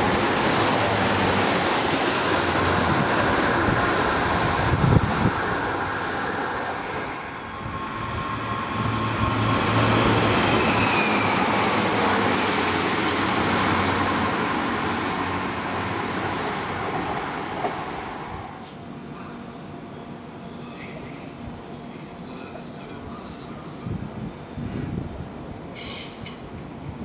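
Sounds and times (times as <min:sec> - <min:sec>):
train wheels rumbling on rails: 0:00.0 - 0:19.4, 0:24.0 - 0:27.0.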